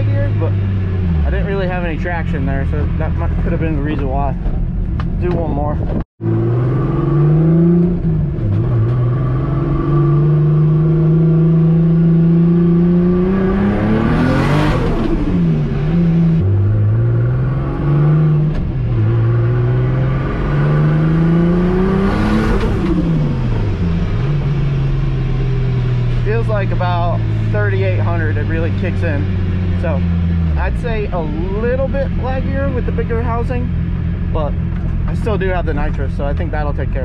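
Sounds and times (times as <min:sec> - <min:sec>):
turbocharged car engine accelerating: 0:00.0 - 0:37.0.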